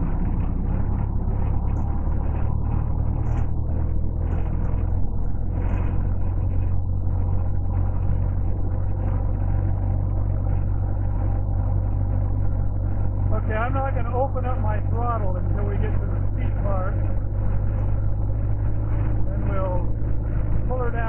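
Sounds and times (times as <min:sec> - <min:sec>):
car engine running: 0:00.0 - 0:21.0
road noise: 0:00.0 - 0:21.0.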